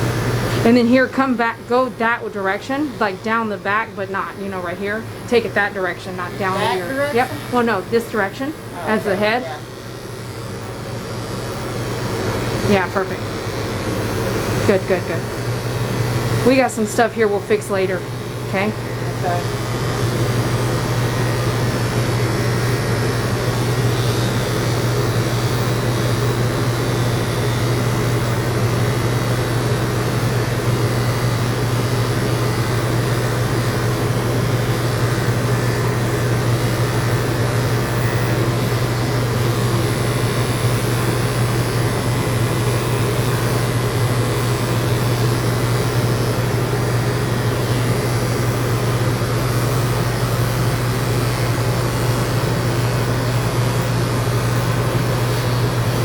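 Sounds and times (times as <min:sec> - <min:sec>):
electric clippers humming: 0:00.0 - 0:56.0.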